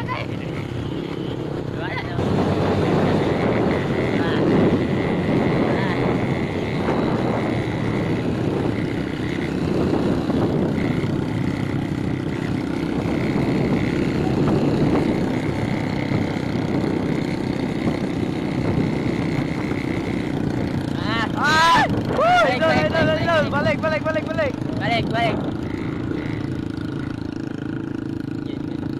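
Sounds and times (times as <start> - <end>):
small motorcycle engines running: 0.0 - 28.9
wind and road noise: 0.0 - 28.9.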